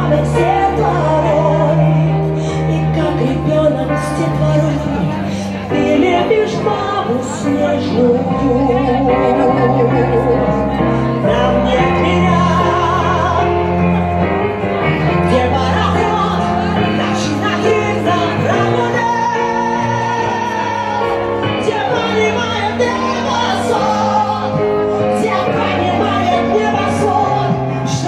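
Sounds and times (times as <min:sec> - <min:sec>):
instrumental backing with bass: 0:00.0 - 0:28.0
person singing with vibrato: 0:00.0 - 0:28.0.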